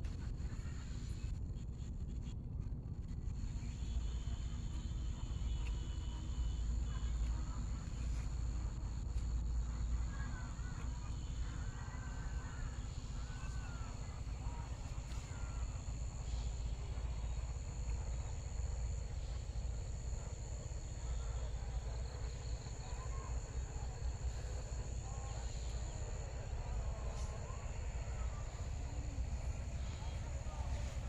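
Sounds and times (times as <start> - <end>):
insects trilling: 3.4 - 31.0.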